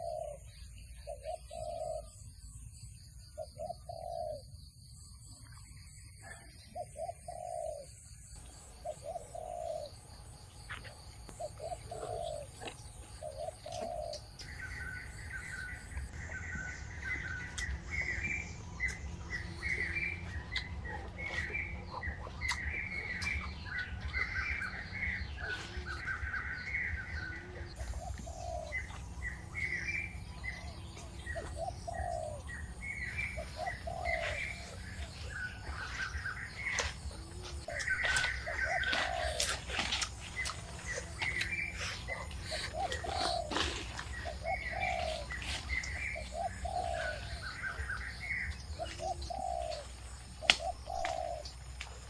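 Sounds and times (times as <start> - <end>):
doves cooing: 0.0 - 2.2, 3.4 - 4.5, 6.1 - 8.0, 8.6 - 52.0
birds chirping: 0.0 - 52.0
steady low rumble: 8.4 - 52.0.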